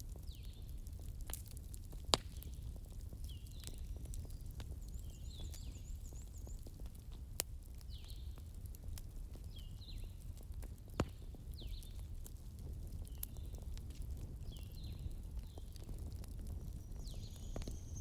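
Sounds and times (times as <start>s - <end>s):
campfire crackling: 0.0s - 18.0s
fire popping: 0.0s - 18.0s.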